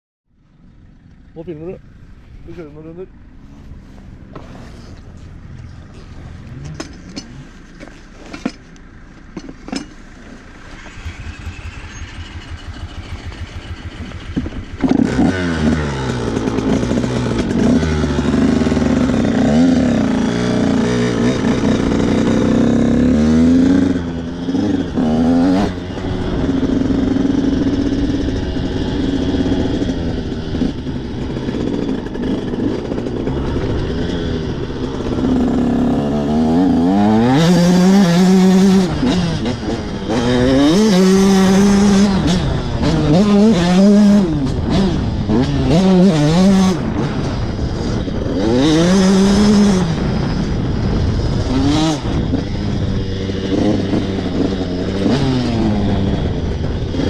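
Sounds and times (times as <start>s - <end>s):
motorcycle engine revving: 0.5s - 57.0s.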